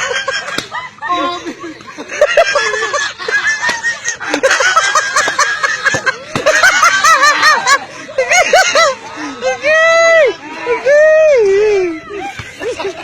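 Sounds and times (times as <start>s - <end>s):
people laughing and giggling: 0.0s - 13.0s.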